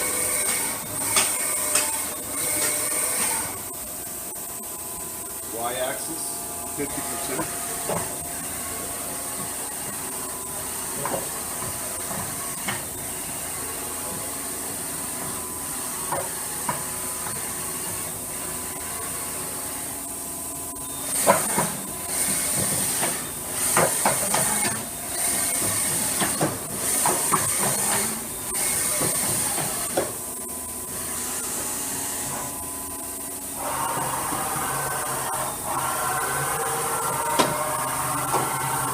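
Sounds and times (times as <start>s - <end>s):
machine drives humming: 0.0s - 38.9s.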